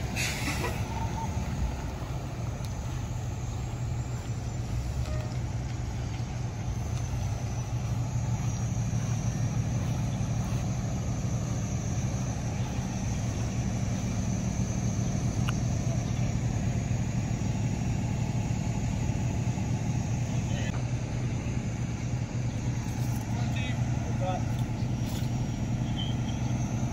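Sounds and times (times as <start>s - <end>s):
engine idling low hum: 0.0s - 26.9s
high-pitched whine: 0.0s - 26.9s.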